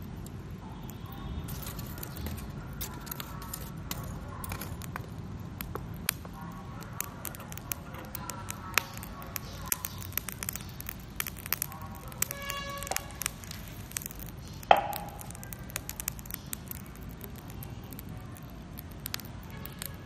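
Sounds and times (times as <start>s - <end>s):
charcoal crackling: 0.0s - 20.0s
sharp pops of charcoal: 0.0s - 20.0s.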